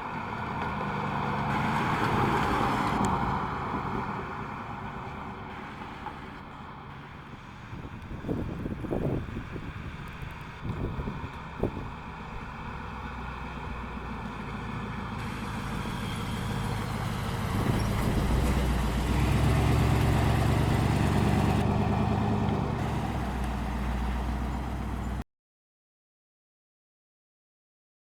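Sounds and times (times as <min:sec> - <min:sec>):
car engine and exhaust: 0:00.0 - 0:25.2.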